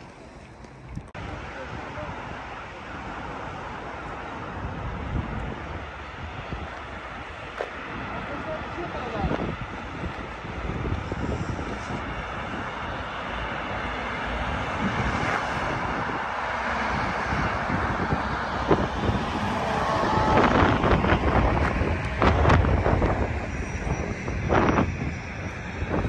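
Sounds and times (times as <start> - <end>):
moving vehicle rumbling: 0.0 - 26.0.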